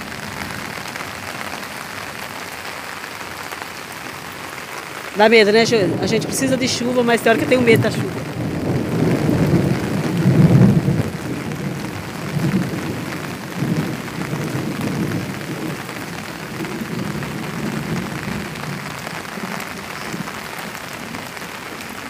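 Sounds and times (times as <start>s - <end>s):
heavy rain falling: 0.0s - 22.0s
thunder rumbling: 0.0s - 22.0s.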